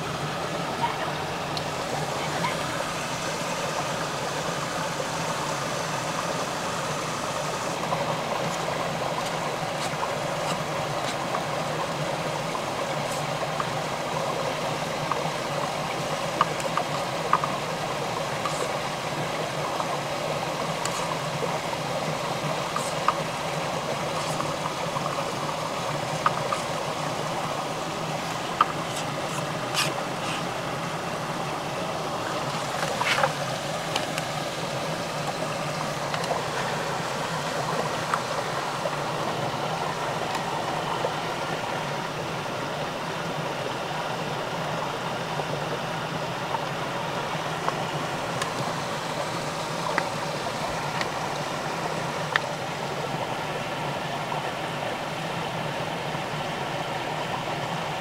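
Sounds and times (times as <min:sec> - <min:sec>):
stream rushing: 0:00.0 - 0:58.0.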